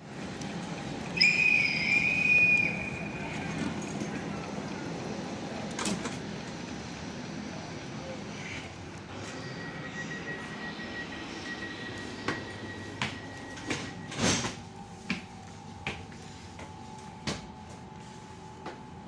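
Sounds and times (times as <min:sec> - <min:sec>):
train humming: 0:00.0 - 0:19.0.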